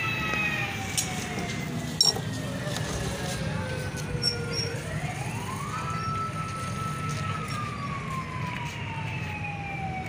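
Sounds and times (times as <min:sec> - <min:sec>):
siren wailing: 0:00.0 - 0:10.0.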